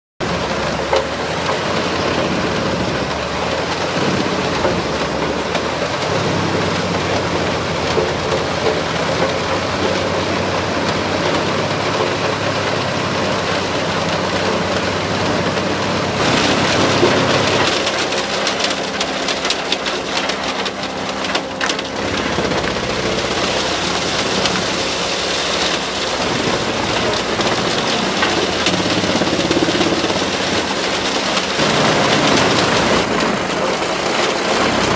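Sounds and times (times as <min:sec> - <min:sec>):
tractor engine under load: 0:00.2 - 0:34.9
wood chips rushing and pattering: 0:00.2 - 0:34.9
branches cracking in chipper: 0:00.3 - 0:34.9.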